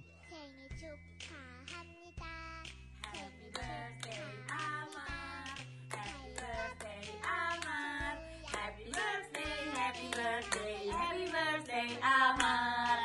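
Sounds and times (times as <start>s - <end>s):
hands clapping: 1.1s - 13.0s
person singing: 1.7s - 13.0s.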